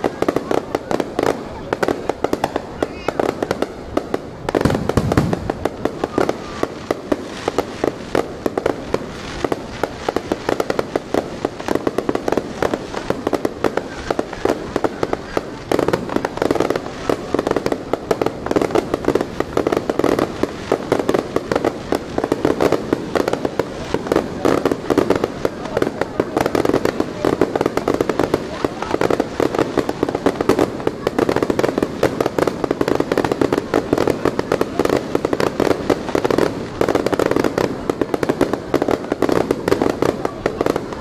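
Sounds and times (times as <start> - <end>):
fireworks crackling pops: 0.0 - 41.0.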